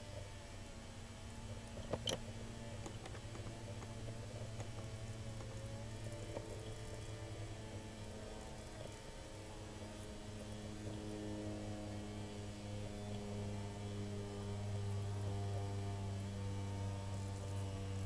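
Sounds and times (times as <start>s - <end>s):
electric motor hum: 0.0s - 18.0s.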